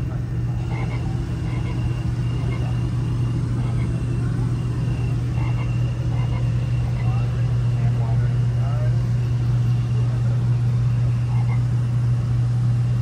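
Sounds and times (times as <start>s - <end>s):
faint voices chattering: 0.0s - 12.3s
steady low hum: 0.0s - 13.0s.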